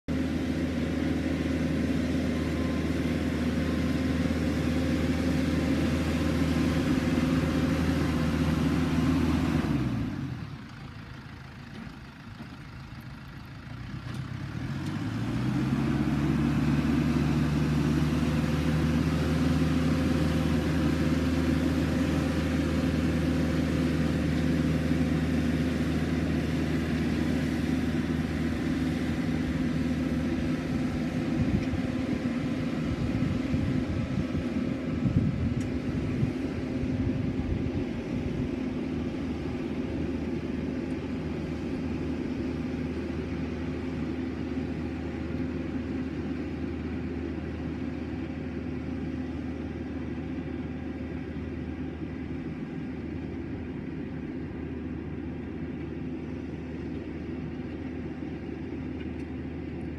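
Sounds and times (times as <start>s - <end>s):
tractor diesel engine: 0.0s - 59.9s.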